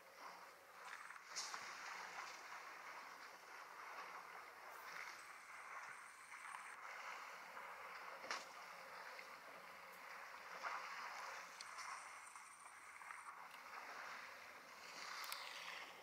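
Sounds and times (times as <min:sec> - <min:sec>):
elephants drinking water: 0:00.0 - 0:16.0.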